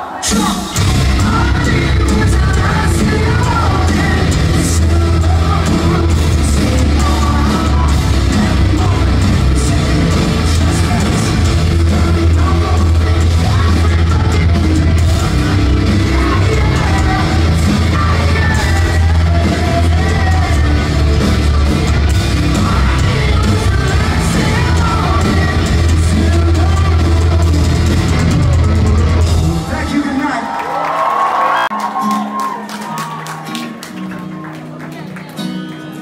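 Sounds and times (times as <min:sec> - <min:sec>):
metal band playing live: 0:00.0 - 0:30.3
sung and yelled vocals: 0:00.0 - 0:31.7
heavy low bass: 0:00.4 - 0:29.8.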